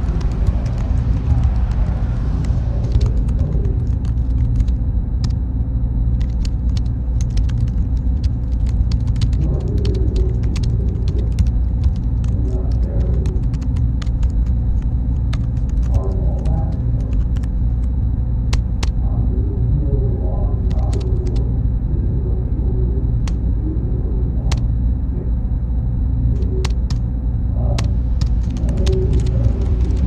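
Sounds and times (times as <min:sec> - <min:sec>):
machinery rumble: 0:00.0 - 0:30.0.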